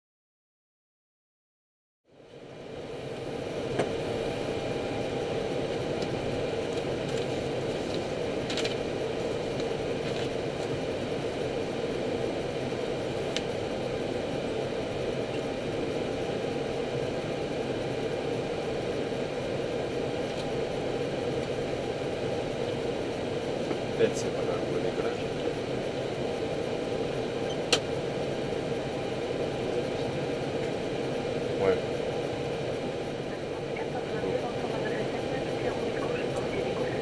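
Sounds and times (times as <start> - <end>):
aircraft engines idling hum: 2.1 - 37.0.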